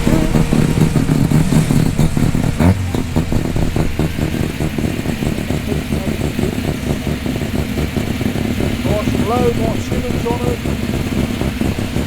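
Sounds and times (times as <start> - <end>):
car engine passing slowly: 0.0 - 12.0.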